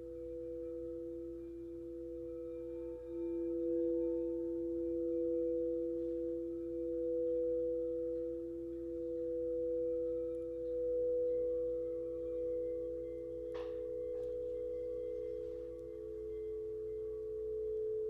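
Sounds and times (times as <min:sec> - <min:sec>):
singing bowls ringing: 0:00.0 - 0:18.0.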